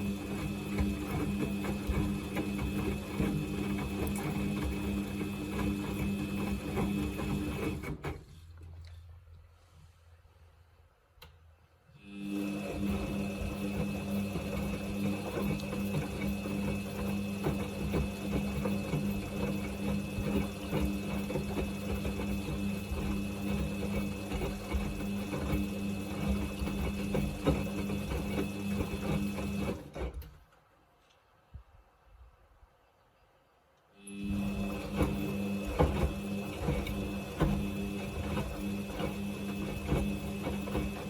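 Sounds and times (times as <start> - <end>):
washing machine motor hum: 0.0 - 8.6, 12.0 - 30.3, 34.0 - 41.0.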